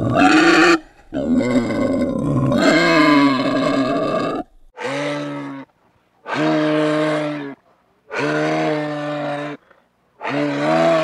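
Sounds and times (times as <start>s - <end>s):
animal calling: 0.0s - 9.6s, 10.2s - 11.0s.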